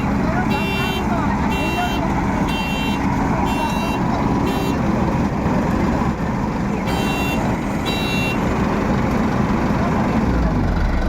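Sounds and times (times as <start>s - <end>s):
heavy engine running under load: 0.0s - 11.0s.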